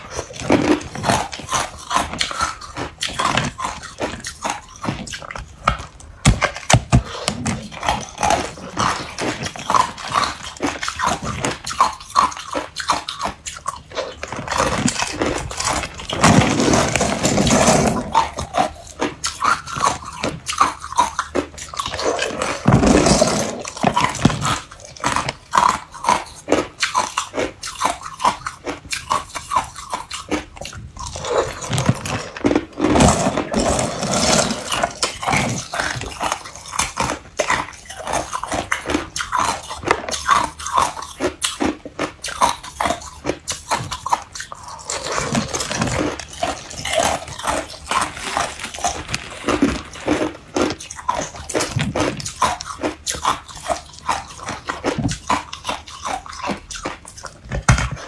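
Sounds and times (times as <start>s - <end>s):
ice crunched between teeth: 0.0s - 58.0s.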